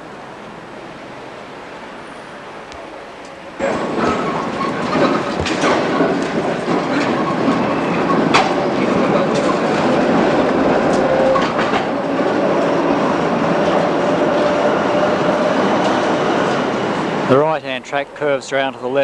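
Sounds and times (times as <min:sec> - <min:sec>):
tram wheels clicking over rail joints: 0:03.2 - 0:18.9.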